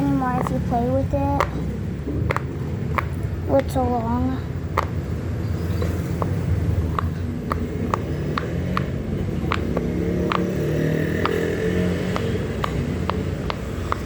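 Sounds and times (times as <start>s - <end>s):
fidget toy bubbles popping: 0.0s - 3.7s, 4.7s - 5.0s, 5.8s - 14.0s
steady low rumble: 0.0s - 14.0s.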